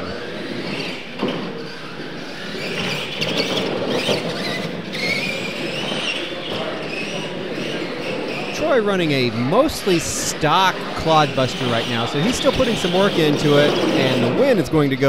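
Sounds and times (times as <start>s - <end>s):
electric motors and gears whining: 0.0s - 15.0s.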